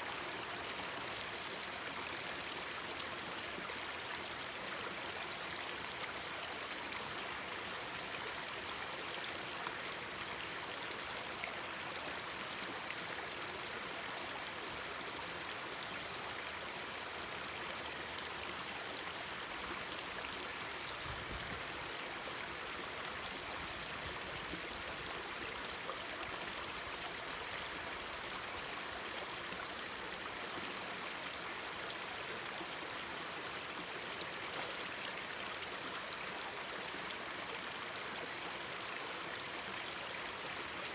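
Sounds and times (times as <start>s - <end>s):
mountain stream babbling: 0.0s - 40.9s.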